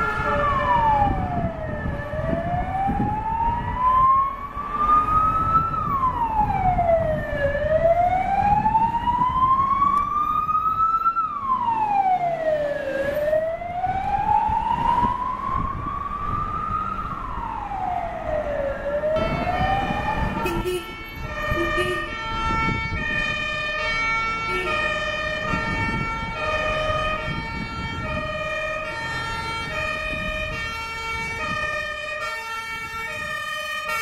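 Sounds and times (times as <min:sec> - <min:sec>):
fire engine siren wailing: 0:00.0 - 0:34.0
truck engine rumbling: 0:04.4 - 0:34.0.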